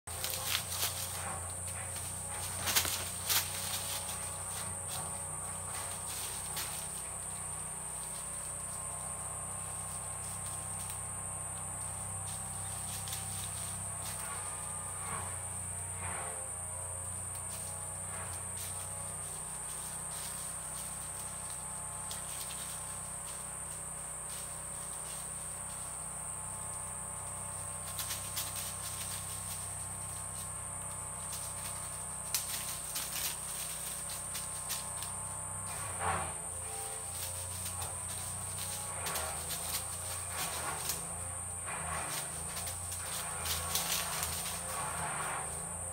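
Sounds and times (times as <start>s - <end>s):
rustling in dry leaves: 0.0s - 45.9s
insect chorus: 0.1s - 45.9s.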